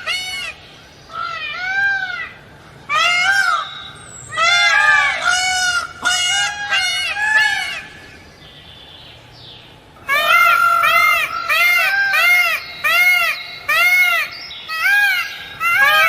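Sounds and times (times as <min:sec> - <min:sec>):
peafowl honking calls: 0:00.0 - 0:08.3, 0:10.0 - 0:16.0.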